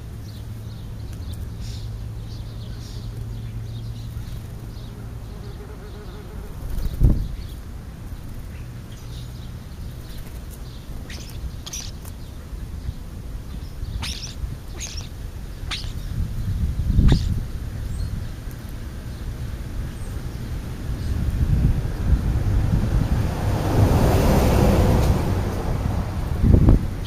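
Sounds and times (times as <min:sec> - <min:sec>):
sparrows chirping: 0:00.0 - 0:22.4
low steady buzz: 0:00.0 - 0:23.6.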